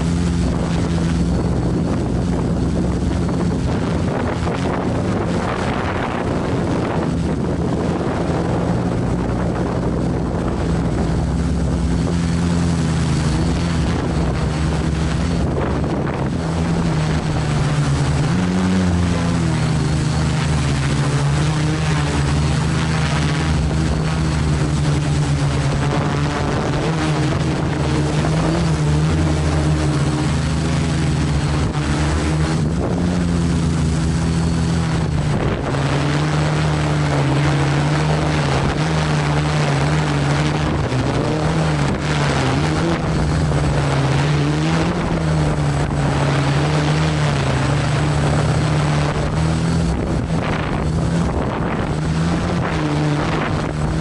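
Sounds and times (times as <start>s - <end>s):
drone motors and propellers droning: 0.0s - 54.0s
wind rushing over microphone: 0.0s - 54.0s.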